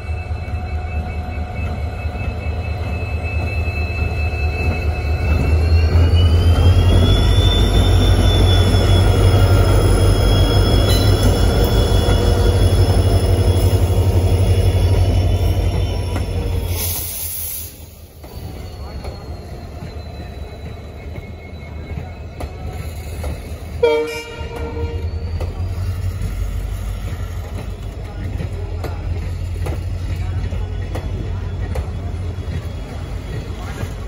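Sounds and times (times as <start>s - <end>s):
train coaches rolling past: 0.0s - 34.0s
diesel locomotive rumble: 4.0s - 34.0s.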